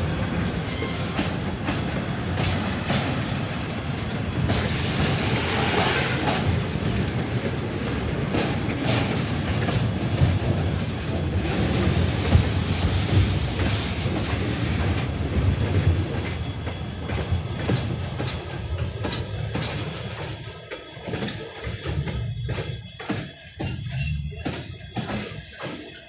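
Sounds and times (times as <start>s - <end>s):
train rumble: 0.0s - 26.0s
train wheels clacking over rail joints: 0.0s - 26.0s.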